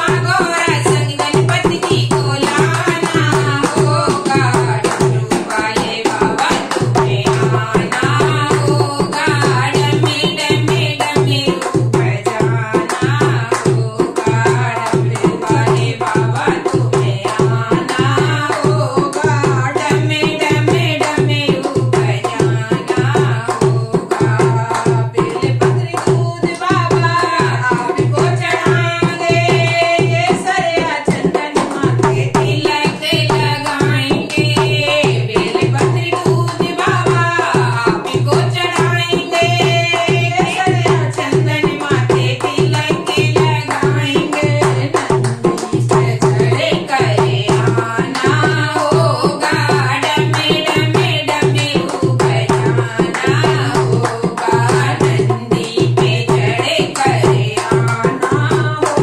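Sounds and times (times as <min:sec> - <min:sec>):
barrel drum beat: 0:00.0 - 0:59.0
women singing devotional song: 0:00.0 - 0:59.0.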